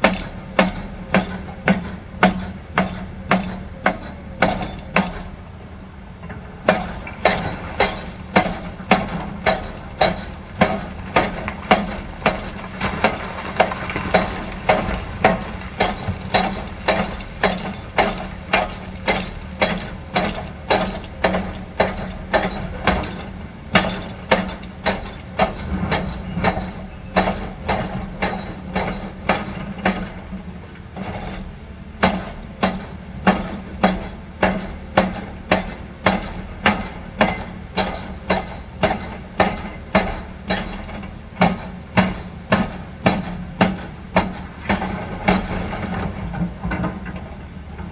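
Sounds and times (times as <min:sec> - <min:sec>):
machine knocking: 0:06.7 - 0:30.2, 0:32.0 - 0:47.2.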